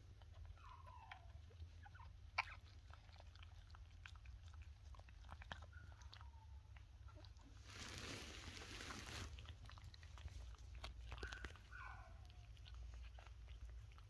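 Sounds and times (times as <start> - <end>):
puppies suckling wet clicks: 0.0 - 7.6, 8.8 - 14.0.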